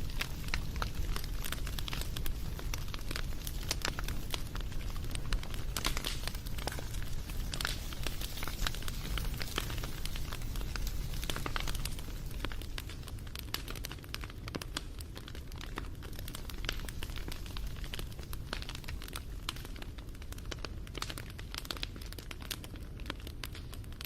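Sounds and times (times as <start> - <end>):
low rumble of burning: 0.0 - 24.0
wood fire crackling: 0.0 - 24.0.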